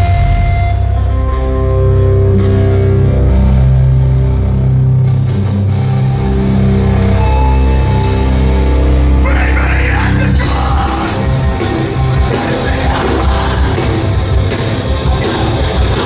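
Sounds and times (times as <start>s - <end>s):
distorted electric guitar chords: 0.0s - 16.0s
live rock band playing: 0.0s - 16.0s.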